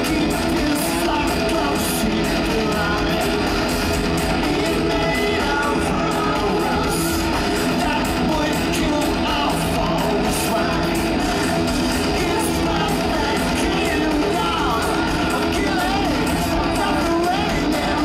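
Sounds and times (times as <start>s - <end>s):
distorted electric guitar: 0.0s - 18.0s
driving drum beat: 0.0s - 18.0s
man singing through loudspeakers: 0.0s - 18.0s.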